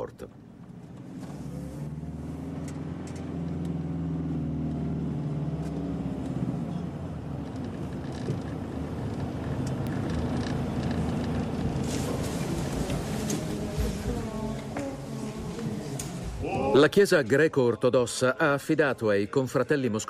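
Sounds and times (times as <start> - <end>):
engine and road hum: 0.0 - 16.4.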